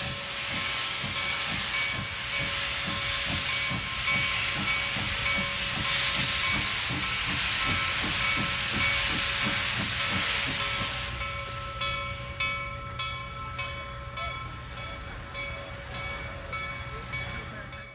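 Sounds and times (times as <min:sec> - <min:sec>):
loud steam hiss: 0:00.0 - 0:17.9
steam locomotive exhaust chuffs: 0:00.0 - 0:17.9.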